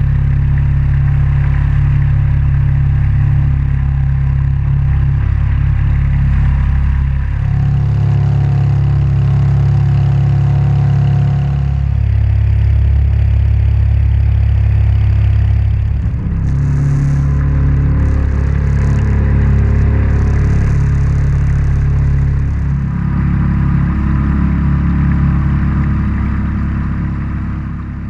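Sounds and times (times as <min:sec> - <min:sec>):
jet kayak engine droning: 0:00.0 - 0:28.0.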